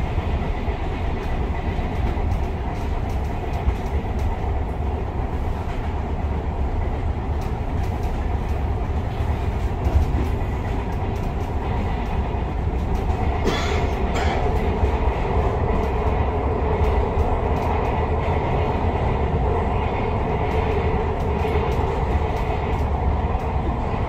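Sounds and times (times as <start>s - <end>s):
constant hum: 0.0s - 24.0s
wheels rumbling on rail: 0.0s - 24.0s.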